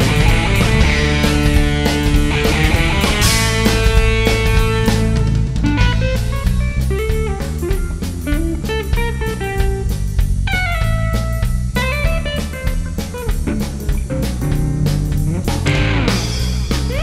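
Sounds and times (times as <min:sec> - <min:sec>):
drum kit: 0:00.0 - 0:17.0
guitar melody: 0:00.0 - 0:17.0.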